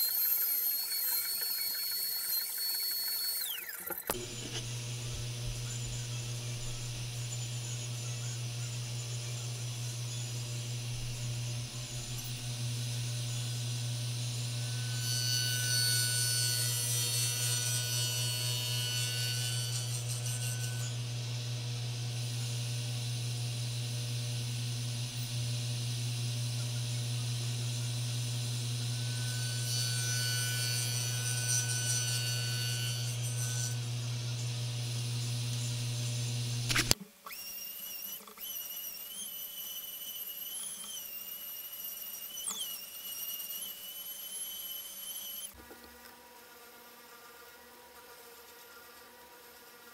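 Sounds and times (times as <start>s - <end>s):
saw blade cutting wood: 0.0s - 45.6s
table saw humming: 0.0s - 45.6s
orbital sander whine: 0.0s - 45.9s.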